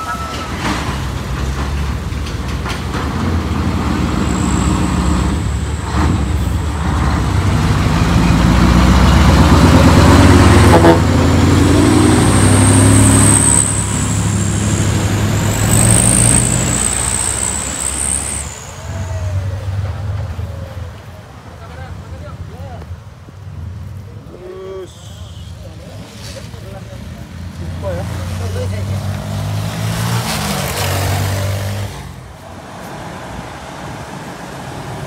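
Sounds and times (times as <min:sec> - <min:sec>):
heavy truck diesel engine passing: 0:00.0 - 0:35.0.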